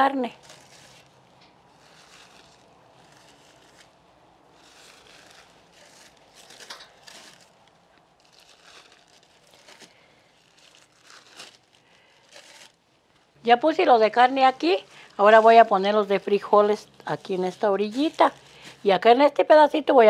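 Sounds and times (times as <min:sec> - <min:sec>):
paper crinkling and rustling: 0:00.0 - 0:19.4.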